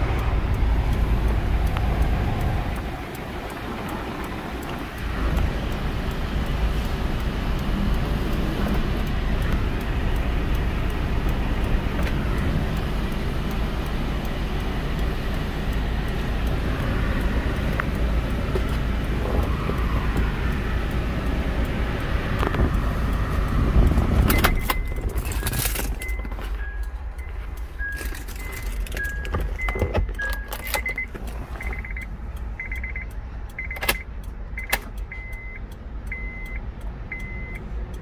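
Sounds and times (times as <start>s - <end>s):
car engine rumble and hiss: 0.0s - 38.0s.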